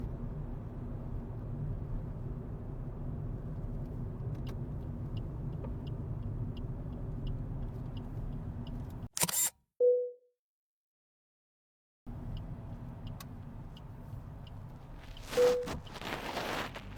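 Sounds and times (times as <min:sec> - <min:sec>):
car running on road: 0:00.0 - 0:09.1, 0:12.1 - 0:16.9.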